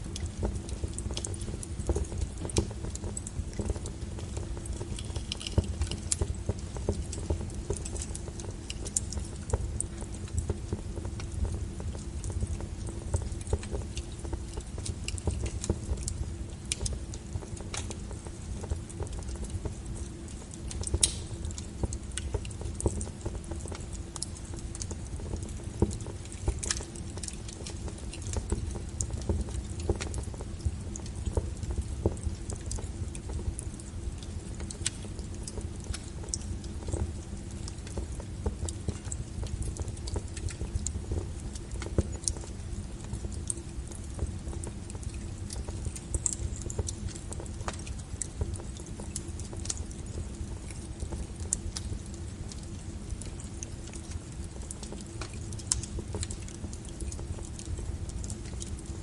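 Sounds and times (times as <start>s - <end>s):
low rumble of flame: 0.0s - 59.0s
wood fire crackling: 0.0s - 59.0s.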